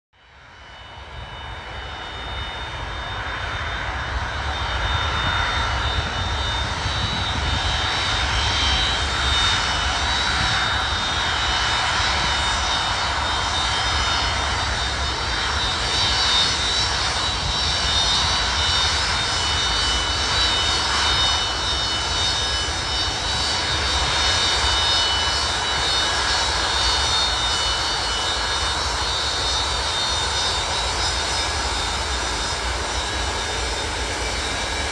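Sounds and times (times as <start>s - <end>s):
jet engines rumbling and whining: 0.2s - 34.9s.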